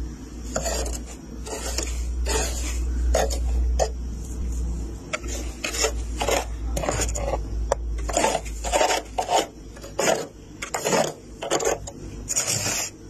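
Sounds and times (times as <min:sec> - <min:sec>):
steady low hum: 0:00.0 - 0:13.0
frost scraping off freezer wall: 0:00.4 - 0:04.5, 0:05.1 - 0:13.0.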